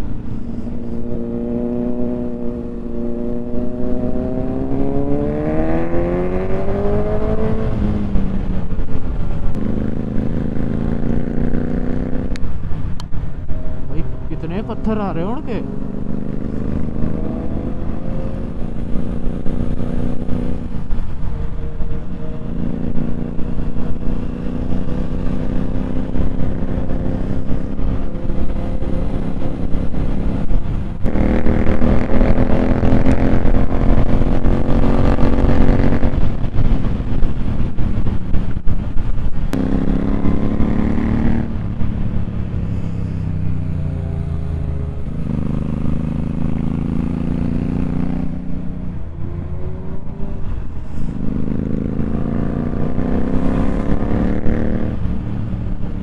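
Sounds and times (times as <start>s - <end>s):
motorcycle engine shifting gears: 0.0s - 56.0s.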